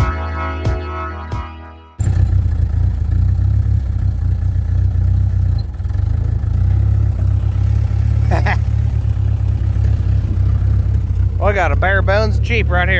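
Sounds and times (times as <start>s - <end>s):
engine idling: 2.0s - 12.9s.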